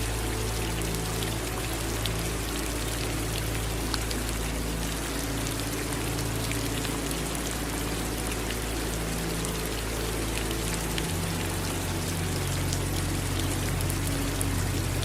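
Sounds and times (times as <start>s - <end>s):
low steady hum: 0.0s - 15.0s
running water: 0.0s - 15.0s
steady rainfall: 0.0s - 15.0s.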